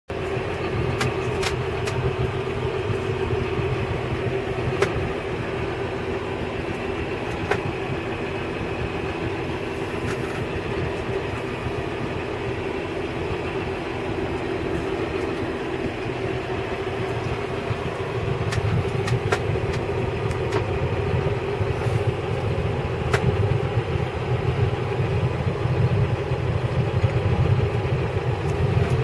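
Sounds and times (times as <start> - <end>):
tractor diesel engine running: 0.1 - 29.0.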